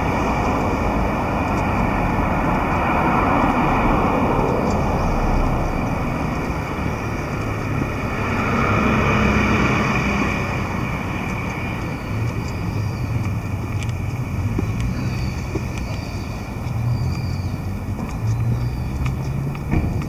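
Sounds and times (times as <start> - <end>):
cars passing on street: 0.0 - 20.0.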